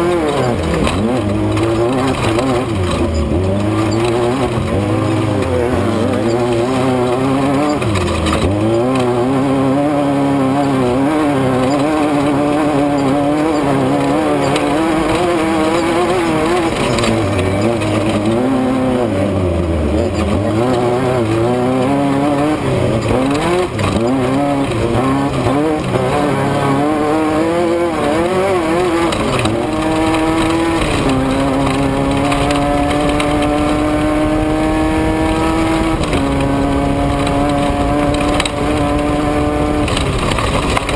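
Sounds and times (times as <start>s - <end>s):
engine upshifts: 0.0s - 40.9s
race vehicle engine revving: 0.0s - 40.9s.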